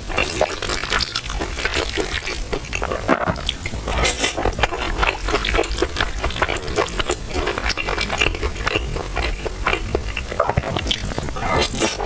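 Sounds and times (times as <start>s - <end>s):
chewing: 0.1s - 12.0s.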